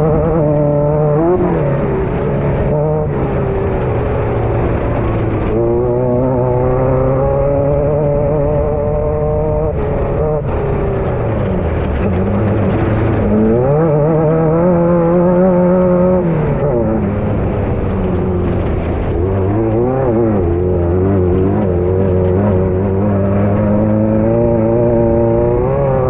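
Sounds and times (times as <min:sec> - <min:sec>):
racing buggy engine revving: 0:00.0 - 0:26.0.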